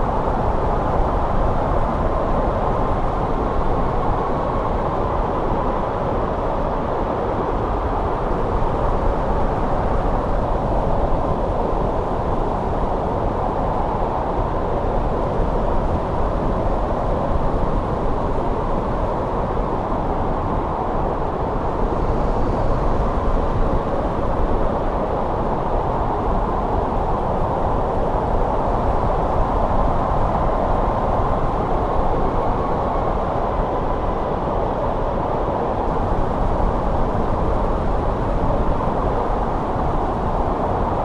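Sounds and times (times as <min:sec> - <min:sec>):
steady wind rushing: 0:00.0 - 0:41.0.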